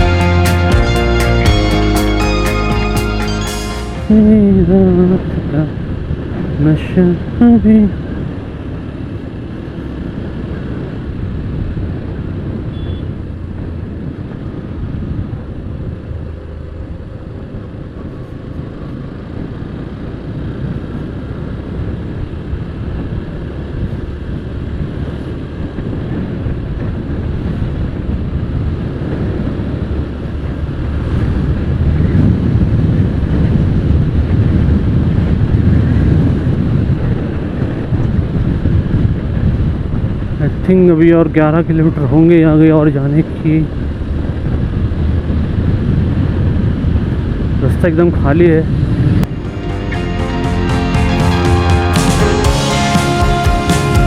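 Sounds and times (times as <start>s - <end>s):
wind noise on microphone: 4.0s - 49.9s.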